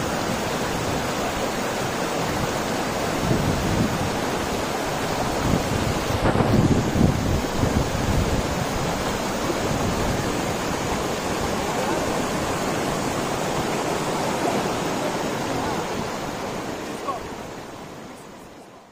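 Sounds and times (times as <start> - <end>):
stream rapids rushing: 0.0 - 18.9.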